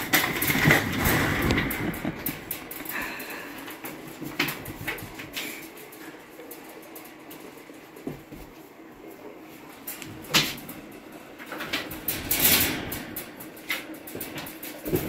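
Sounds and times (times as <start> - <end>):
rustling clatter of wire mesh: 0.0 - 15.0.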